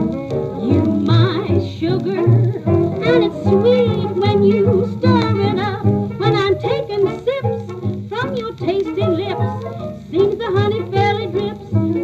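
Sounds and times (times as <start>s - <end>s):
swing jazz band playing: 0.0s - 12.0s.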